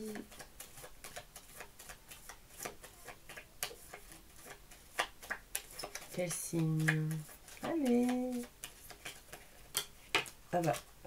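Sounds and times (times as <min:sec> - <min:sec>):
cards being shuffled by hand: 0:00.0 - 0:11.0.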